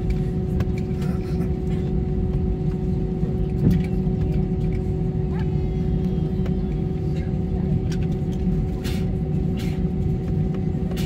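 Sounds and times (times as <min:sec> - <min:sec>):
jet engines humming: 0:00.0 - 0:11.0
wheels rumbling on taxiway: 0:00.0 - 0:11.0.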